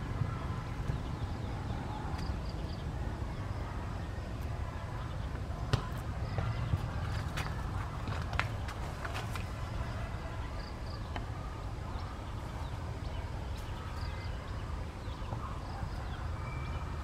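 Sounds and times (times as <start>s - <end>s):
low outdoor background rumble: 0.0s - 17.0s.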